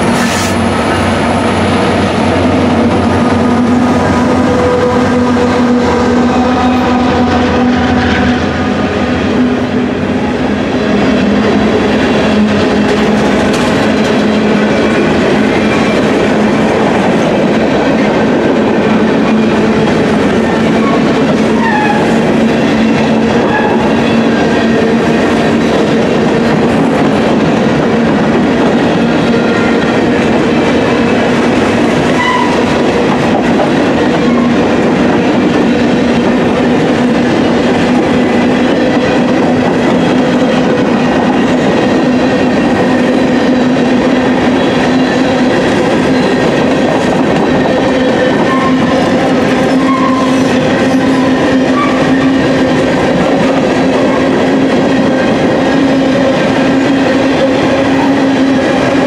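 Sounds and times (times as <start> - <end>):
train wheels clickety-clack: 0.0 - 8.6, 10.6 - 59.0.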